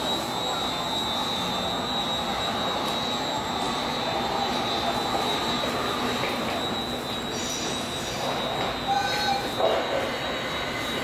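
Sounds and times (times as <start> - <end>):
high-pitched whine: 0.0 - 11.0
steady mechanical noise: 0.0 - 11.0.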